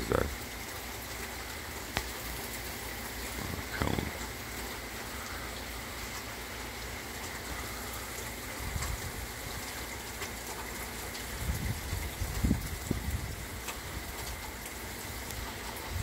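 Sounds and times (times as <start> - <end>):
rain falling on pavement: 0.0 - 16.0.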